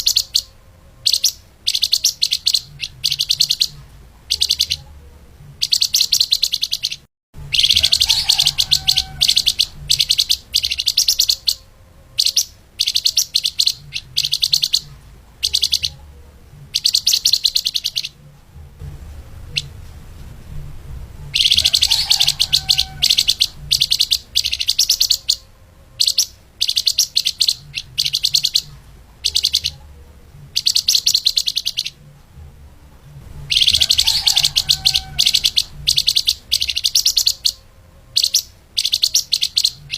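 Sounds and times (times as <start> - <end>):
songbird singing high chattering phrases: 0.0 - 18.2, 21.3 - 32.0, 33.5 - 39.9
low background hum: 0.0 - 39.9.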